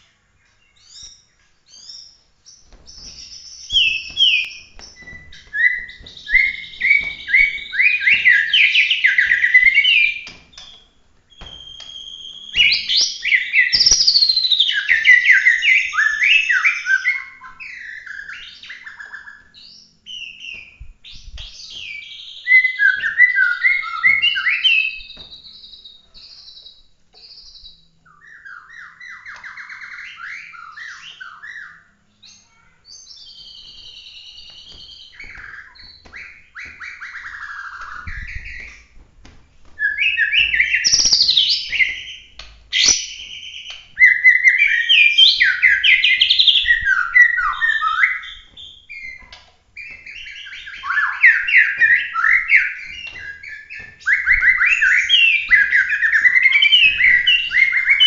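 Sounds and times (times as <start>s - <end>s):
songbird whistling and warbling: 0.4s - 38.9s, 39.8s - 58.0s.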